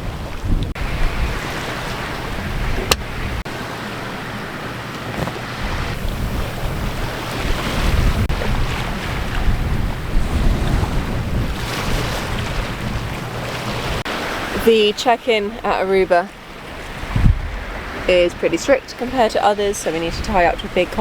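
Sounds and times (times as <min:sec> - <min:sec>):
water rushing along hull: 0:00.0 - 0:21.0
wind buffeting microphone: 0:00.0 - 0:21.0.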